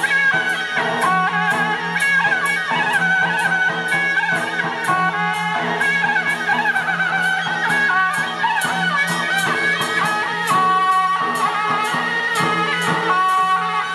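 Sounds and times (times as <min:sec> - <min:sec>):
crisp percussion strikes: 0:00.0 - 0:13.9
reedy wind instrument melody: 0:00.0 - 0:13.9.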